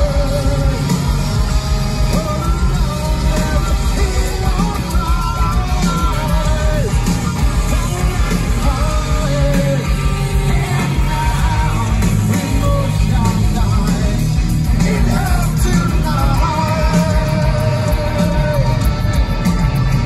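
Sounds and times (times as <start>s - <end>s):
heavy rock band playing: 0.0s - 20.0s
man singing: 0.0s - 20.0s.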